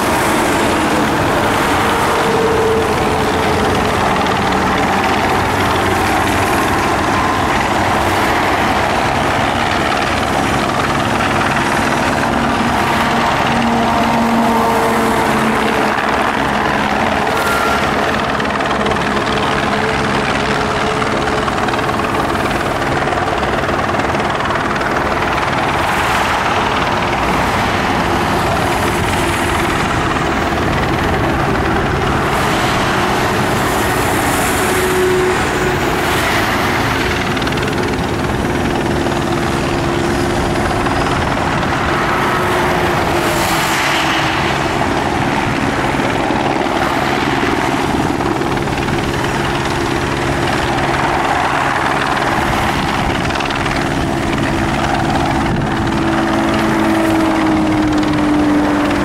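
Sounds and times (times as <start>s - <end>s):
helicopter rotor noise: 0.0s - 59.0s.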